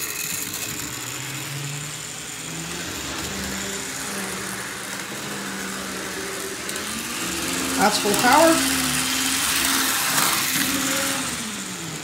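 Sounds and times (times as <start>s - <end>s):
model train motor humming: 0.0s - 12.0s.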